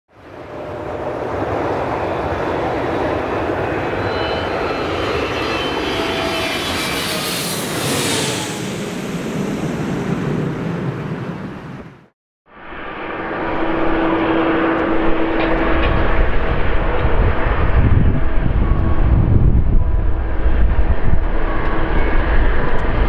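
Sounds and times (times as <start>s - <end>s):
jet airliner flying overhead: 0.2s - 23.0s.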